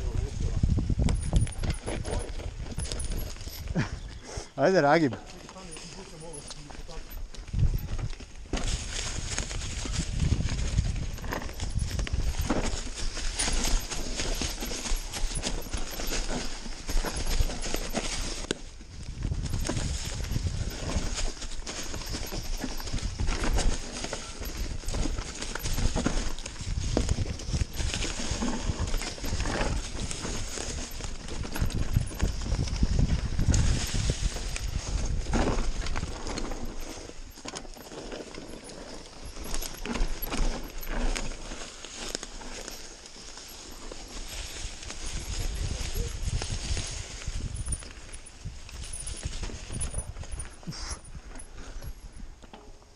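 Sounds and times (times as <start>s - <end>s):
tyres rumbling on dirt: 0.0s - 50.9s
mountain bike rattling: 0.0s - 52.9s.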